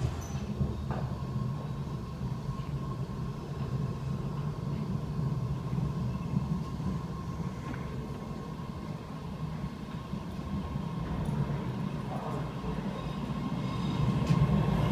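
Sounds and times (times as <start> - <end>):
subway train rumble: 0.0 - 14.9.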